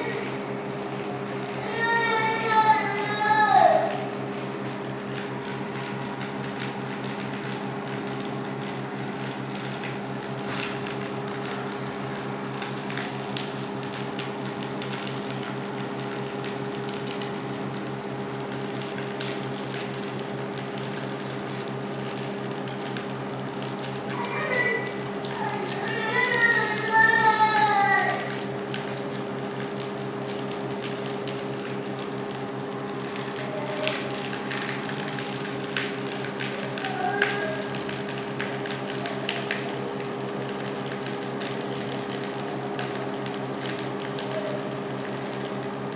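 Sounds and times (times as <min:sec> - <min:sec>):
electrical appliance hum: 0:00.0 - 0:45.9.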